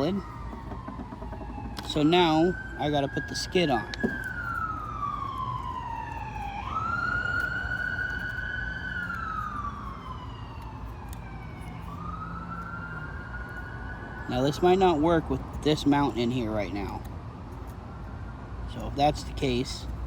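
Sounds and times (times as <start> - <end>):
fire truck siren wailing: 0.0 - 16.1.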